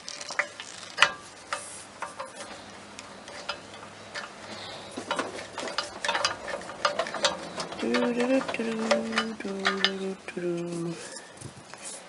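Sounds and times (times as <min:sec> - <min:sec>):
metal parts clicking and tapping: 0:00.0 - 0:12.0.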